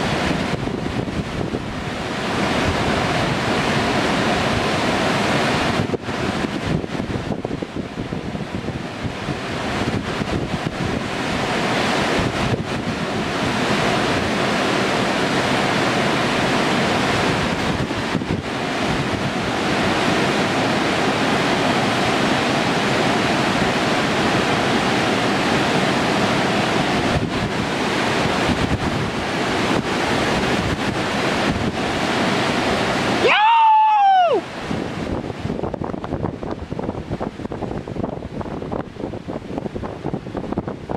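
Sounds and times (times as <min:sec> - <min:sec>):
river rapids rushing: 0:00.0 - 0:40.9
wind buffeting microphone: 0:00.0 - 0:40.9.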